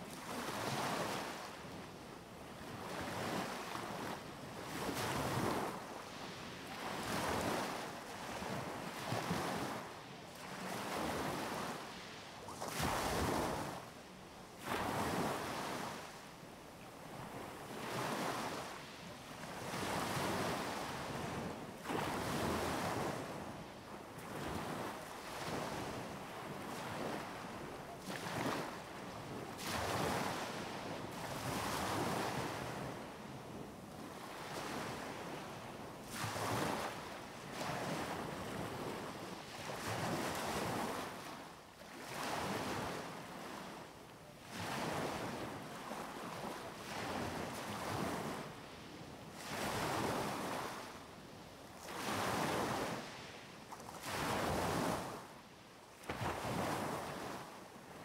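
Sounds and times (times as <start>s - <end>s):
small waves breaking on beach: 0.0s - 58.0s.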